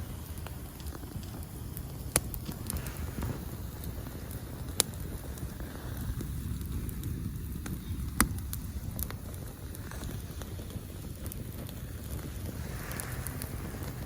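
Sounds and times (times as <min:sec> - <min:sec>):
campfire crackling: 0:00.0 - 0:14.0
loud sharp pops: 0:00.0 - 0:14.0
steady low rumble: 0:00.0 - 0:14.0.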